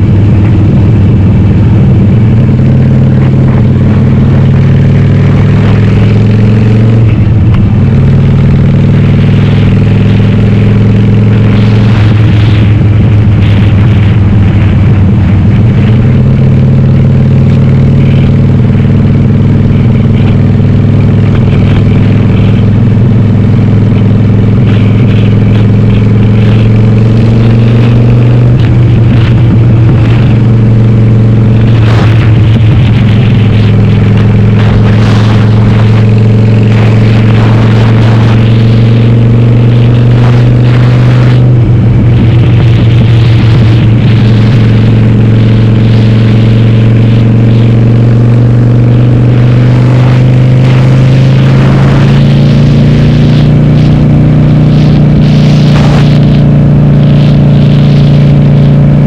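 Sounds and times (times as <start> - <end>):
loud motorcycle engine: 0.0 - 59.0.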